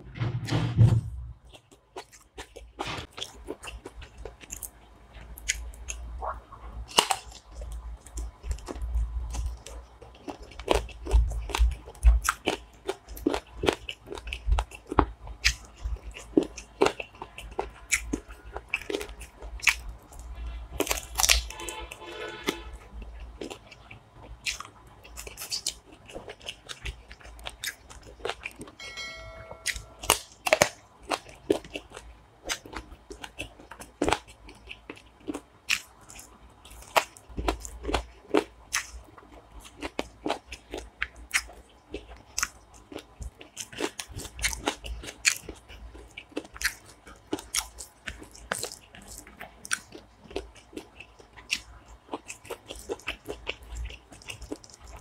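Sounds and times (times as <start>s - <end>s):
chewing and crunching: 1.5s - 28.8s, 30.0s - 55.0s.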